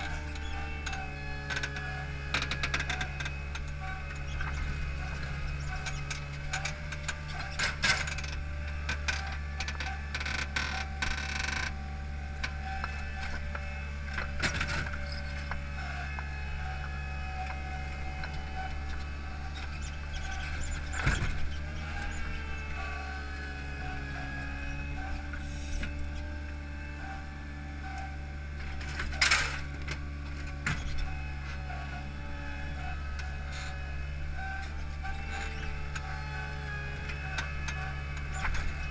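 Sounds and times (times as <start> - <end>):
hydraulics working: 0.0 - 38.9
machine engine running: 0.0 - 38.9.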